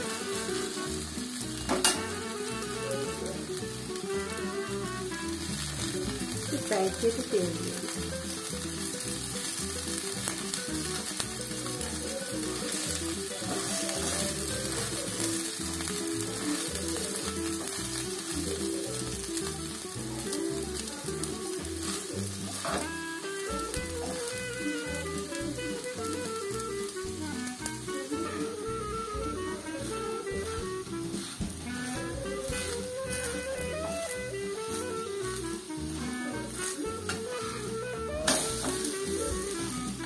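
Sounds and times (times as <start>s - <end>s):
background music: 0.0s - 40.0s
batter sizzling on a griddle: 0.0s - 40.0s.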